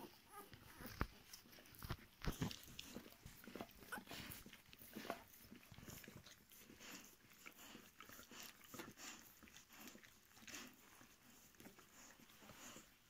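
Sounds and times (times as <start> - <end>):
puppies suckling: 0.0 - 13.0.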